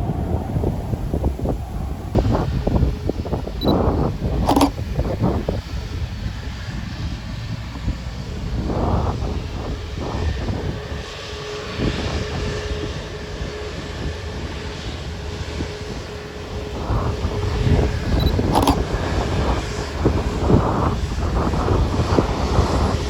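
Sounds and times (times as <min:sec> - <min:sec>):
distant jet engines running: 0:00.0 - 0:23.0
steady jet whine: 0:00.0 - 0:23.0
wind rumble on microphone: 0:00.0 - 0:23.0.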